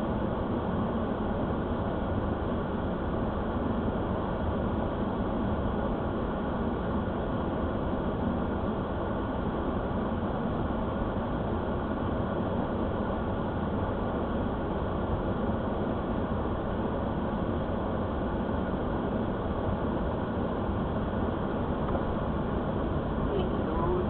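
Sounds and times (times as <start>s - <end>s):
road and engine noise inside vehicle: 0.0s - 24.0s.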